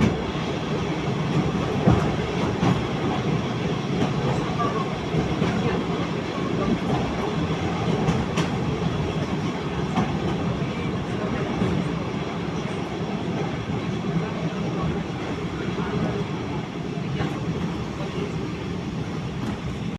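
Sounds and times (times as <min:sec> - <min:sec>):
train wheels clattering on rails: 0:00.0 - 0:16.2.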